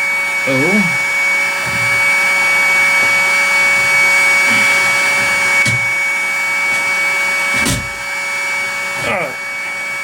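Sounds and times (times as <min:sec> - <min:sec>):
hot air station blowing with whine: 0:00.0 - 0:10.0.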